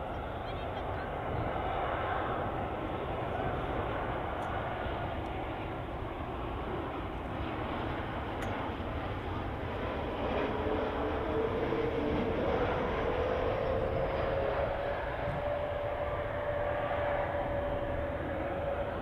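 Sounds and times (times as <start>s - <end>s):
jet engine rush: 0.0s - 19.0s
jet engine whine rising in pitch: 0.0s - 19.0s.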